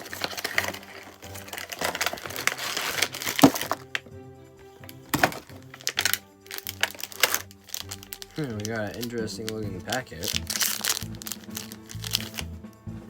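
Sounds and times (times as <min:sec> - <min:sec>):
plastic snack packet crackling: 0:00.0 - 0:12.5
background music with held notes: 0:00.0 - 0:13.0.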